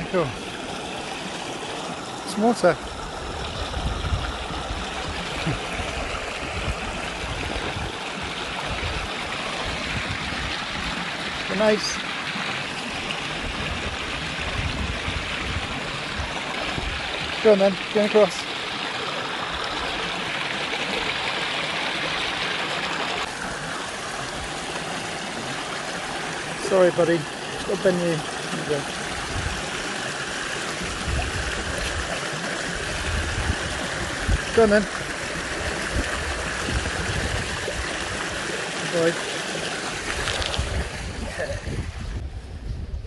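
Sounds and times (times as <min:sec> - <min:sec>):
stream water flowing: 0:00.0 - 0:42.3.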